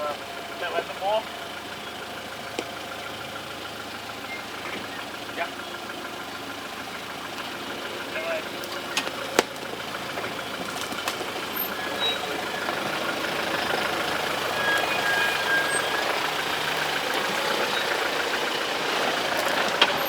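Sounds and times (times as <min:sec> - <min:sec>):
vehicle engine running at low revs: 0:00.0 - 0:20.0.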